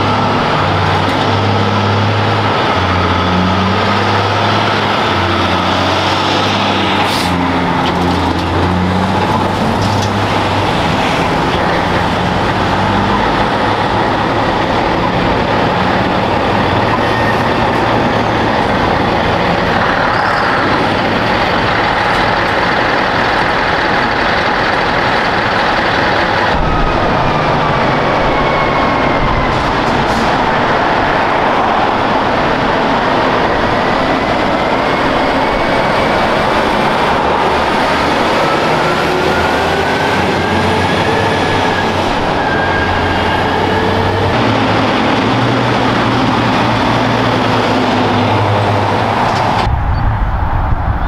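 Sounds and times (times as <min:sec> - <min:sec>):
truck diesel engines rumbling: 0:00.0 - 0:51.0.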